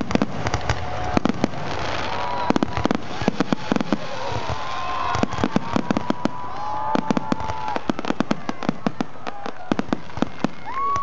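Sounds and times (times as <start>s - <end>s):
fireworks crackling pops: 0.0s - 11.0s
whistling fireworks: 0.0s - 11.0s.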